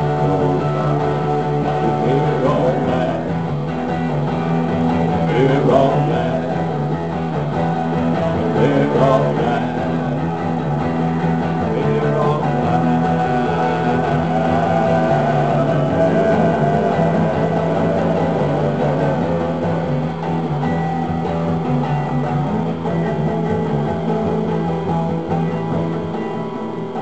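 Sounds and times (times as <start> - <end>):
electric bass: 0.0 - 27.0
electric guitars: 0.0 - 27.0.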